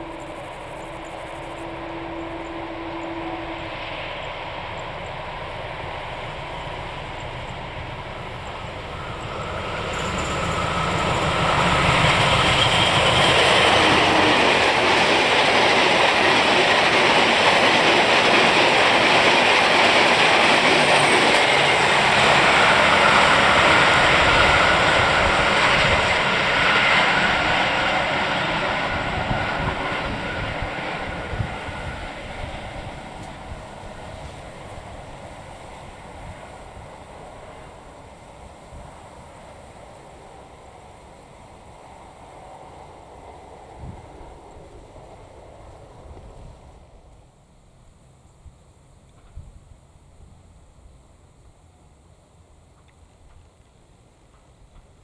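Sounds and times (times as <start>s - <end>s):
train passing at speed: 0.0s - 48.3s.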